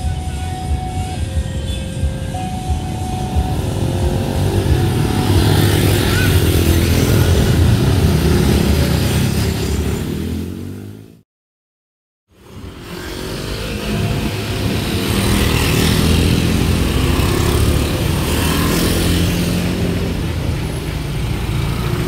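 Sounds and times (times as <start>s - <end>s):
motorcycle engines revving: 0.0s - 11.2s, 12.3s - 22.0s.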